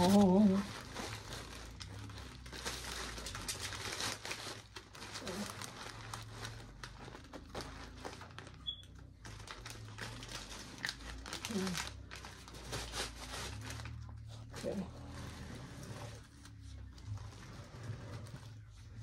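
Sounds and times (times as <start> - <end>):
plastic and tissue paper crinkling: 0.0 - 19.0.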